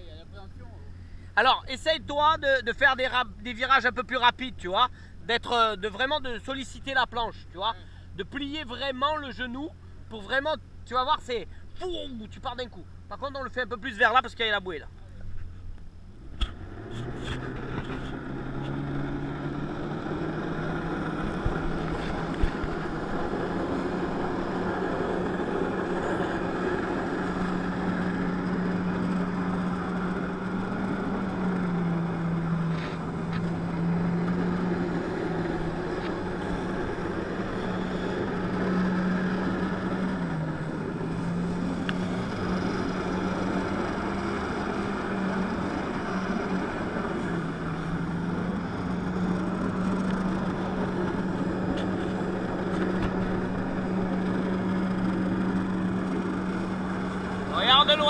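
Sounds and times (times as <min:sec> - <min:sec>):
jet ski engine droning: 0:00.0 - 0:58.0.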